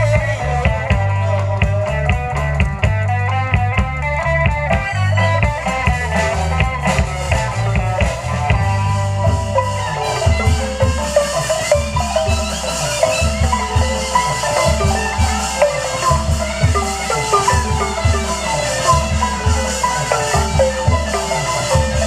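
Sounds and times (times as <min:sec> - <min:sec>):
drum beats: 0:00.0 - 0:22.0
xylophone-type mallet melody: 0:03.7 - 0:22.0.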